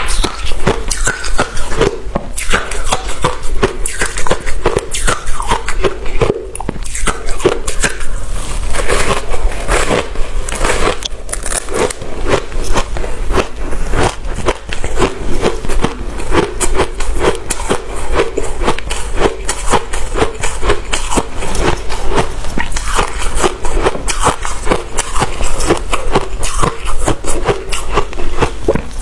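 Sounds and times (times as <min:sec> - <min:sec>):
ice being chewed: 0:00.0 - 0:29.0.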